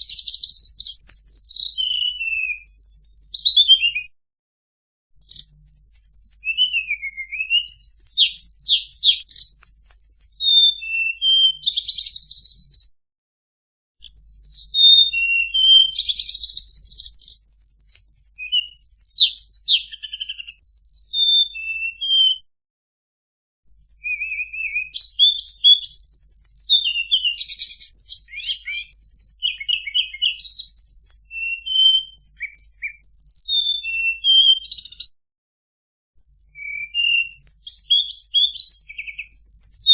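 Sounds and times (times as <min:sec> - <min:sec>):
songbird singing: 0:00.0 - 0:04.1, 0:05.2 - 0:12.9, 0:14.0 - 0:22.4, 0:23.7 - 0:35.1, 0:36.2 - 0:39.9.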